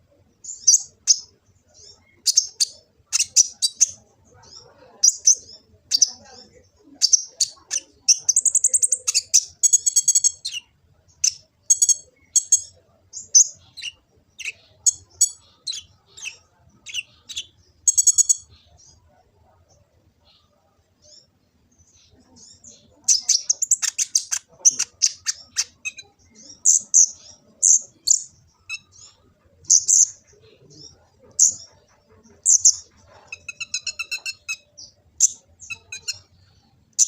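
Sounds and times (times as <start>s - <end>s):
bird chirping and trilling: 0.4s - 19.1s, 20.2s - 37.0s.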